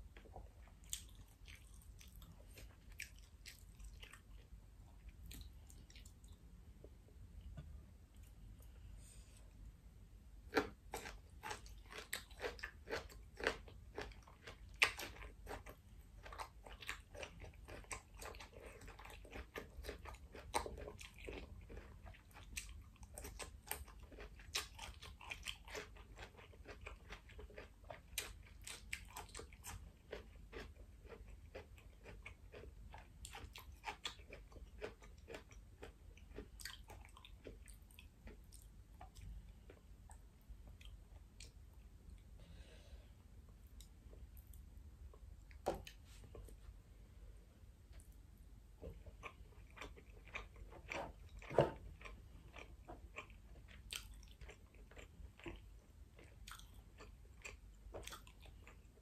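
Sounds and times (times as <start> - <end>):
chewing with crisp crunching: 0.0 - 7.1, 10.4 - 42.4, 47.8 - 59.0.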